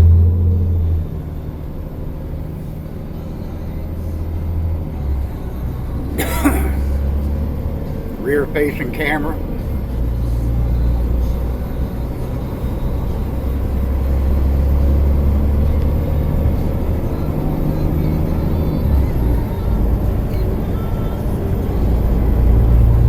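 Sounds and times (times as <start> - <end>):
pickup truck rumble from inside cab: 0.0 - 23.0.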